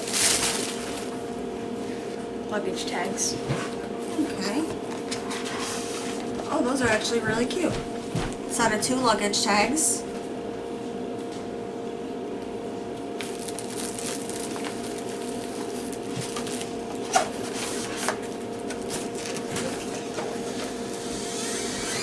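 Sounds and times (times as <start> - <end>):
background hum: 0.0 - 22.0.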